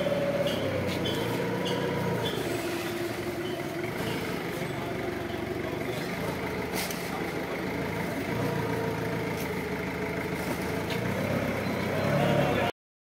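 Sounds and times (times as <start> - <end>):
forklift engine idling: 0.0 - 12.7.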